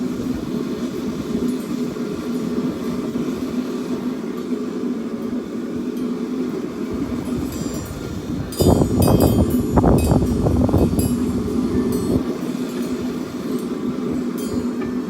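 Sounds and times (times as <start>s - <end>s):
forge humming: 0.0s - 15.0s.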